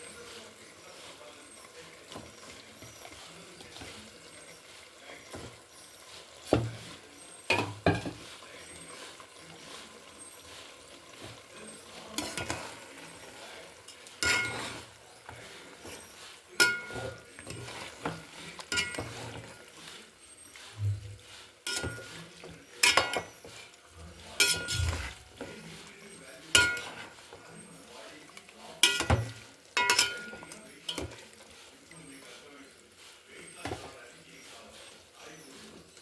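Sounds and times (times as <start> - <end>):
metal utensil clinking on cookware: 1.5 - 9.9, 11.2 - 19.8, 20.4 - 32.3.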